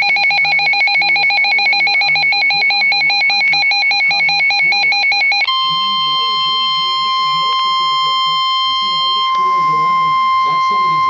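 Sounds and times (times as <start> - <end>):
faint voice talking: 0.9 - 11.0.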